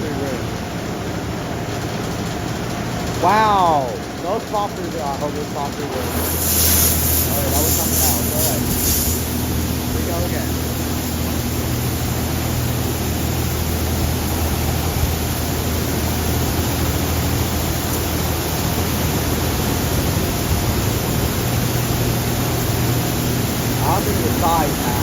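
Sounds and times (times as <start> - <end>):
high-pressure water jets spraying: 0.0 - 25.0
low hum: 0.0 - 25.0.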